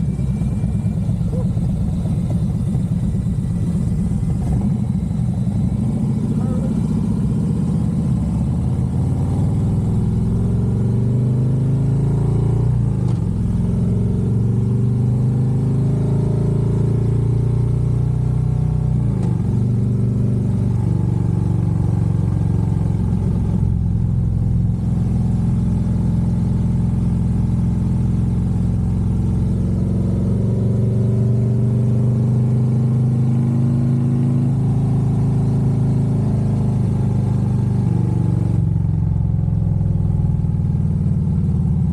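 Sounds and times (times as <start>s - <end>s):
motorcycle engine running: 0.0s - 11.9s, 19.0s - 41.9s.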